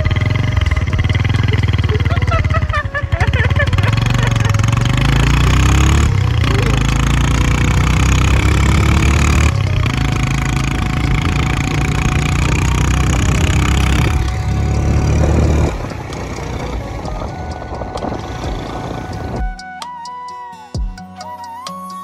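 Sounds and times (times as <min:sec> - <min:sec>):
motorcycle engine revving: 0:00.0 - 0:19.5.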